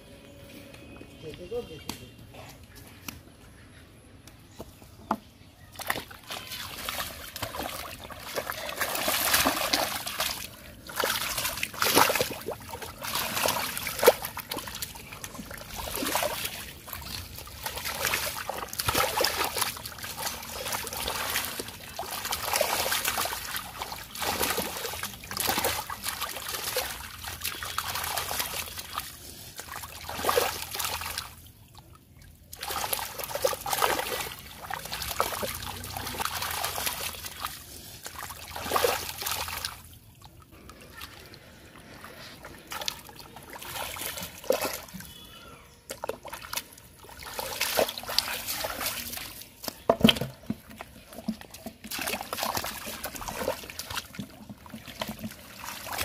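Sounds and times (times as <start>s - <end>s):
water splashing and sloshing: 4.5s - 56.0s.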